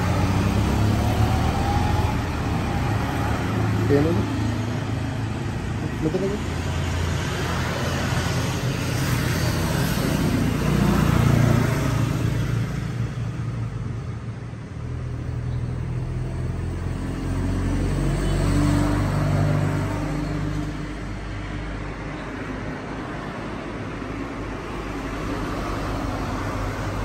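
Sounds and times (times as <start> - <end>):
motor vehicles passing: 0.0 - 27.0.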